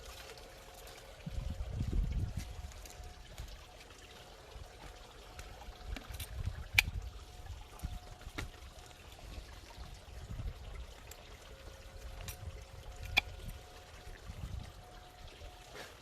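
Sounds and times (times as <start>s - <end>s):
water bubbling and trickling: 0.0s - 16.0s.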